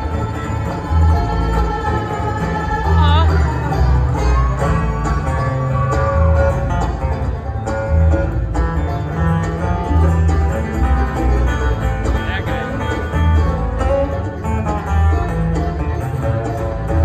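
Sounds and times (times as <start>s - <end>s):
bluegrass band playing: 0.0s - 17.0s.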